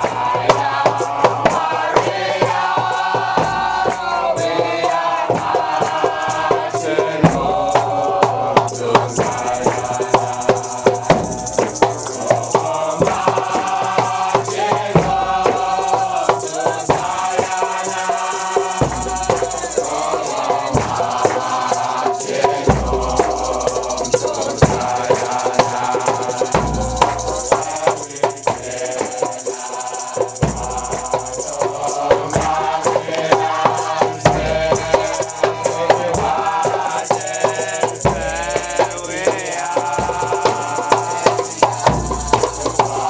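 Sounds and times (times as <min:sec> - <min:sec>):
congregation singing a chant: 0:00.0 - 0:43.0
hand percussion steady beat: 0:00.0 - 0:43.0.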